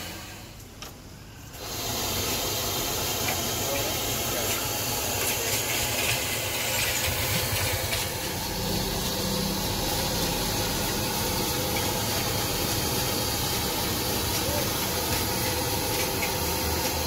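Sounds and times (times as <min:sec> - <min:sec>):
fire roaring hiss: 0:01.3 - 0:17.0.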